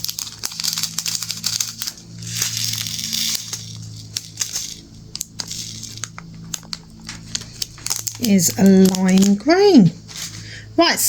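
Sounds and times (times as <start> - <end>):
small beads clicking: 0.0 - 10.4
plastic beads poured rustling: 0.0 - 10.6
steady low hum: 0.0 - 11.0.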